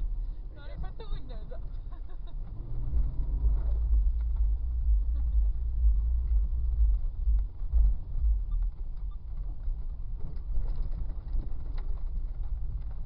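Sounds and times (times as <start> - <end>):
car rumbling over dirt trail: 0.0 - 13.0.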